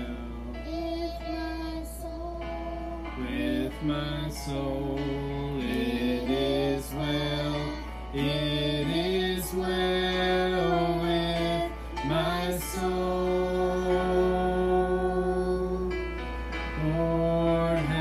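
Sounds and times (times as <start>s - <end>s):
voices singing a slow hymn: 0.0s - 18.0s.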